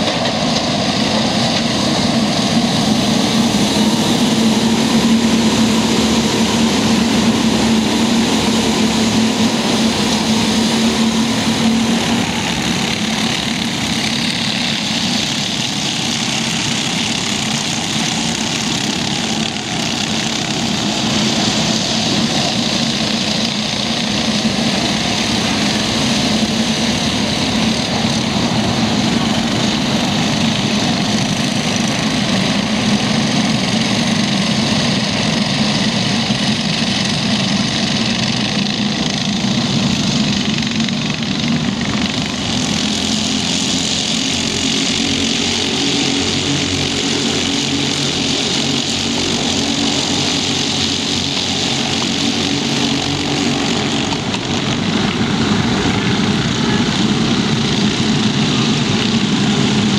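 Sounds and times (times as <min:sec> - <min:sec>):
racing kart engines buzzing: 0:00.0 - 0:59.9.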